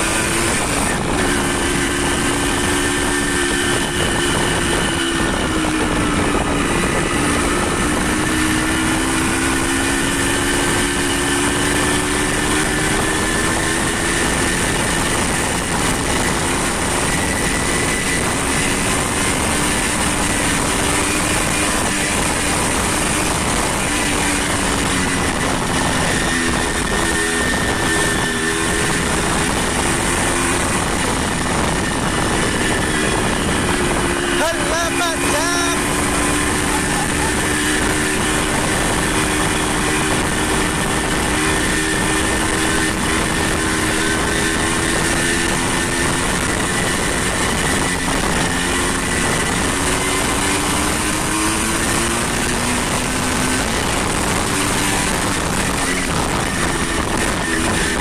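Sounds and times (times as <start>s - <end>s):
vehicle engine running: 0.0s - 58.0s
wind and road noise: 0.0s - 58.0s.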